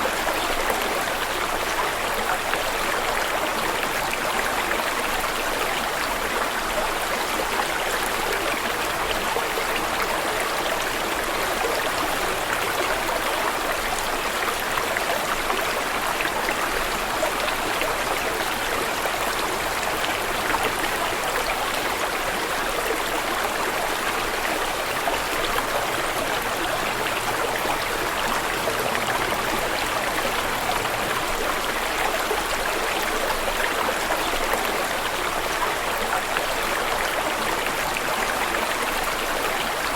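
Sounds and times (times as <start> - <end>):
water rushing and babbling: 0.0 - 39.9.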